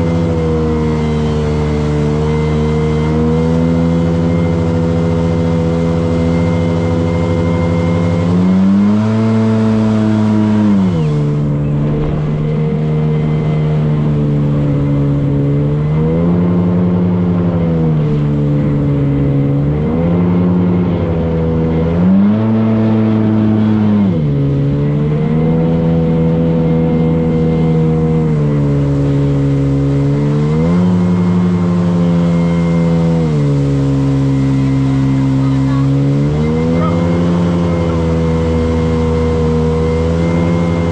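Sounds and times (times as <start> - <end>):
motorboat engine revving: 0.0 - 40.9.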